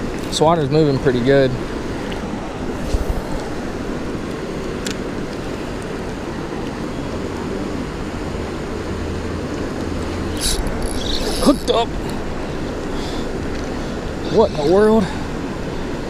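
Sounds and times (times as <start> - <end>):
creek water rushing over dam: 0.0 - 16.0.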